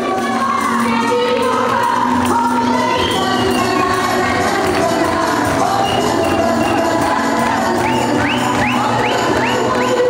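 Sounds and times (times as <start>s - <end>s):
dance music: 0.0s - 10.0s
faint crowd of guests: 0.0s - 10.0s.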